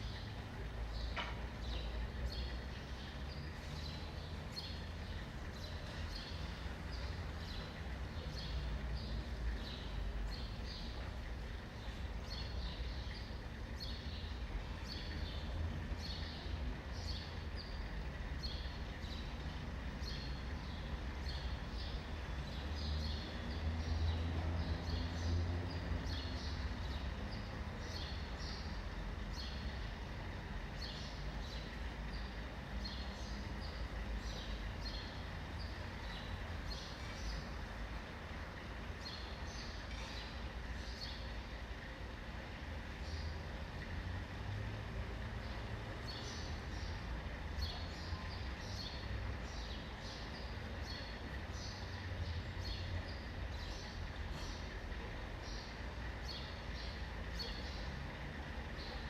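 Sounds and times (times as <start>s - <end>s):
small birds chirping: 0.0s - 41.9s, 45.1s - 59.0s
city traffic rumble: 0.0s - 59.0s.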